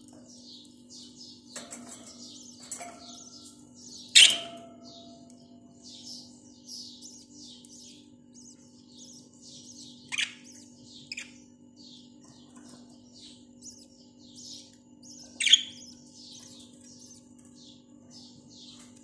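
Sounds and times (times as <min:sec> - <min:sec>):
budgerigars chirping and warbling: 0:00.1 - 0:19.0.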